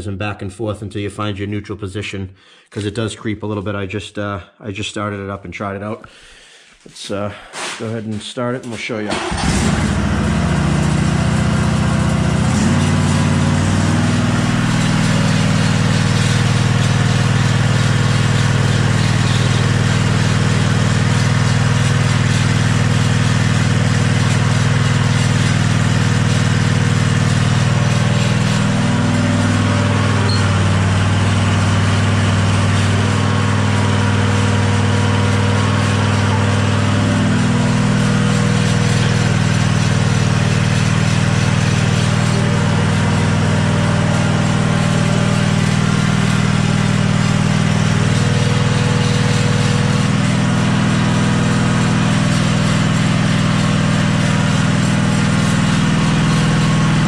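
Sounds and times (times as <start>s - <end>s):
v-twin engine running: 9.2s - 57.0s.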